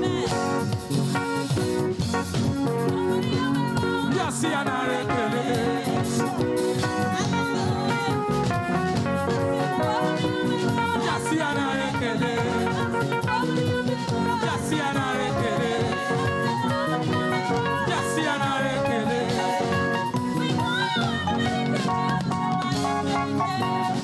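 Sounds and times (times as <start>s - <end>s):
voices singing: 0.0s - 1.0s, 2.6s - 24.0s
gospel band playing: 0.0s - 24.0s.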